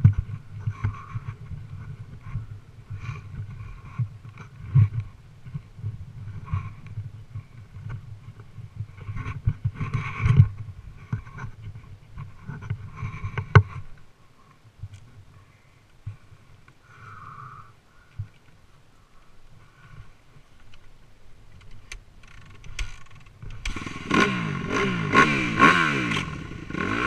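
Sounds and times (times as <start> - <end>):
dirt bike engine at low revs: 0.0 - 18.3, 19.6 - 27.0.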